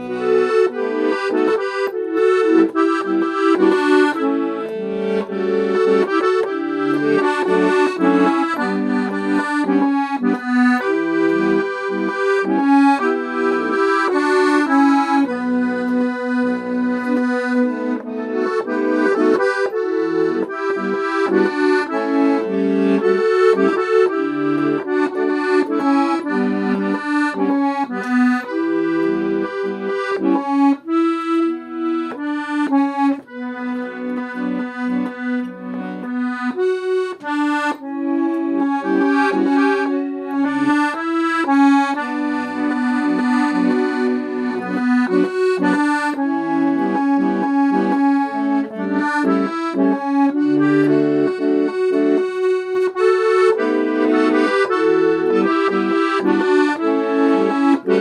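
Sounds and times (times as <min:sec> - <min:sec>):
accordion playing: 0:00.0 - 0:58.0.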